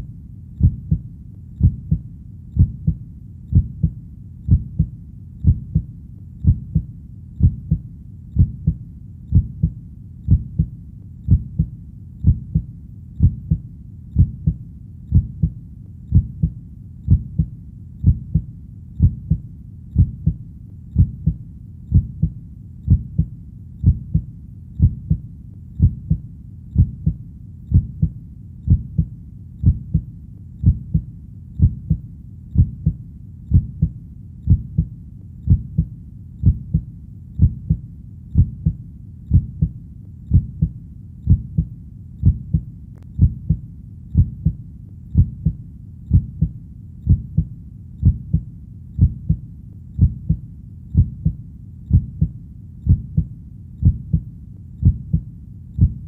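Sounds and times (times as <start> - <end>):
faint low hum: 0.0 - 56.0
heartbeat lub-dub: 0.0 - 56.0.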